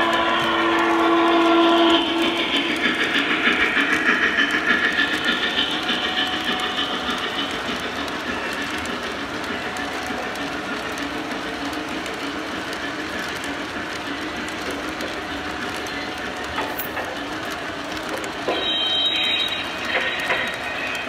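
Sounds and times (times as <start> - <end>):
model train rumbling by: 0.0 - 21.0.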